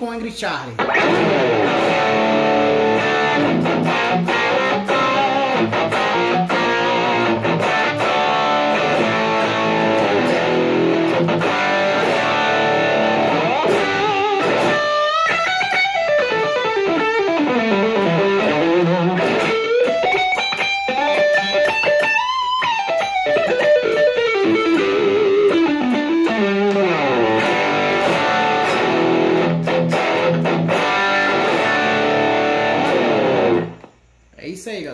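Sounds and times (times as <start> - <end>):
distorted electric guitar: 0.8 - 34.0.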